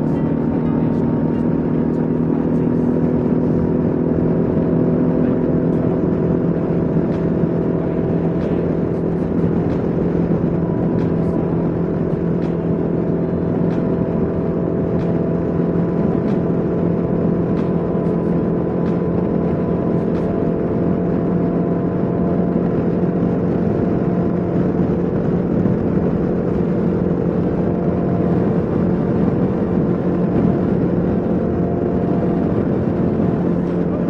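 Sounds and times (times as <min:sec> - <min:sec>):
motorcycle engine cruising: 0:00.0 - 0:34.0
road noise: 0:00.0 - 0:34.0.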